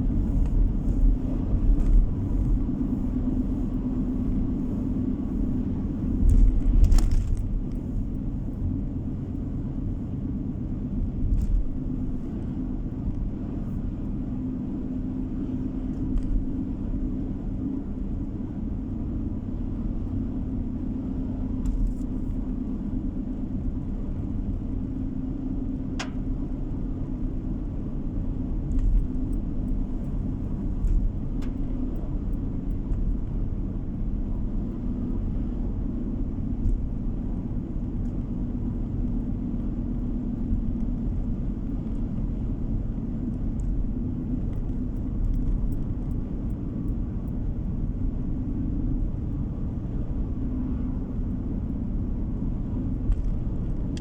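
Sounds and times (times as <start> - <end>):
car cabin road and engine rumble: 0.0 - 54.0.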